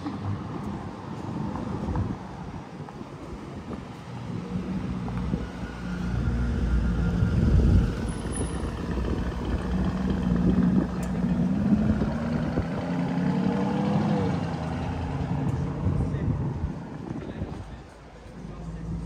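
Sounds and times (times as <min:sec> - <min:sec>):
car engines passing: 0:00.0 - 0:19.0.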